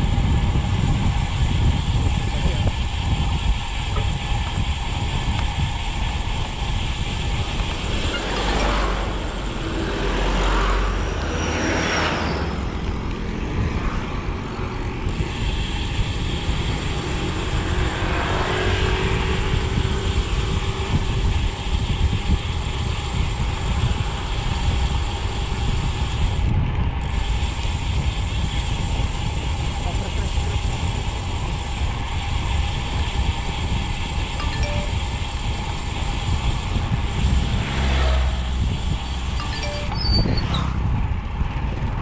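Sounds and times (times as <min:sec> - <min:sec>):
motor vehicles passing: 0:00.0 - 0:42.0
wind rushing over microphone: 0:00.0 - 0:42.0.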